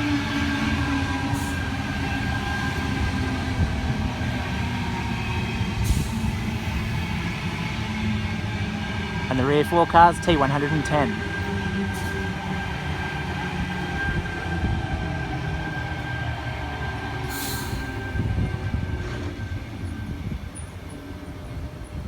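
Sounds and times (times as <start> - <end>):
electric train rumbling and whining: 0.0 - 9.8, 10.7 - 22.0.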